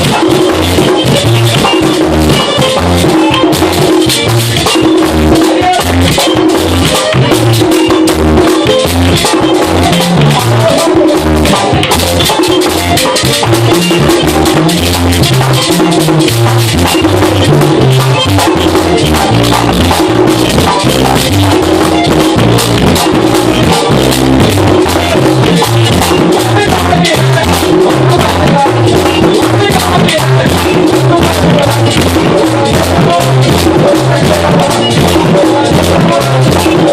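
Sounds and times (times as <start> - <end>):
electric bass line: 0.0 - 36.9
tambora drumming: 0.0 - 36.9.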